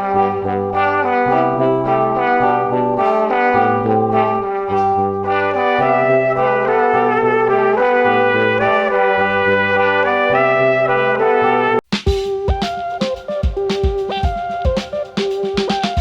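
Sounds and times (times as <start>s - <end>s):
brass background music: 0.0s - 16.0s.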